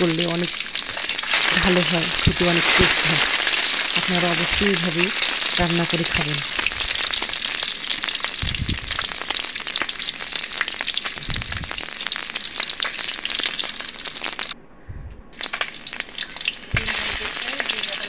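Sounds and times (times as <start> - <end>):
eggs sizzling in hot oil: 0.0 - 14.6, 15.4 - 18.0.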